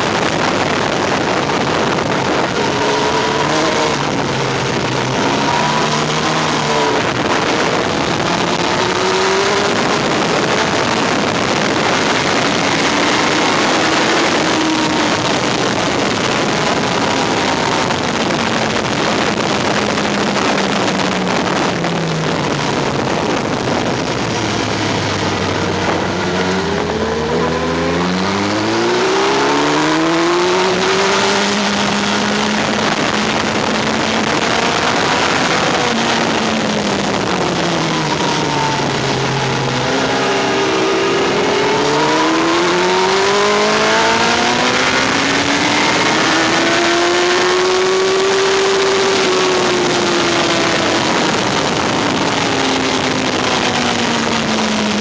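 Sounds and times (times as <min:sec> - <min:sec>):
motorcycle engine accelerating: 0:00.0 - 0:55.0
wind rush on microphone: 0:00.0 - 0:55.0.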